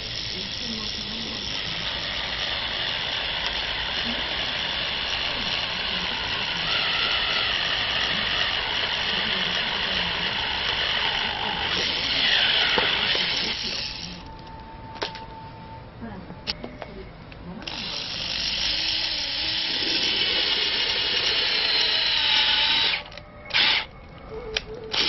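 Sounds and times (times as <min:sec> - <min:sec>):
cordless drill boring through metal: 0:00.0 - 0:14.3, 0:17.6 - 0:23.9.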